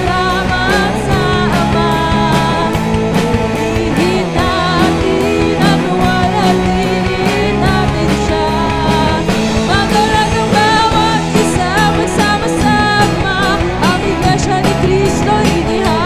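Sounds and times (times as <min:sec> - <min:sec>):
drum kit beat: 0:00.0 - 0:16.0
electric bass: 0:00.0 - 0:16.0
electric guitars: 0:00.0 - 0:16.0
woman singing lead: 0:00.0 - 0:16.0.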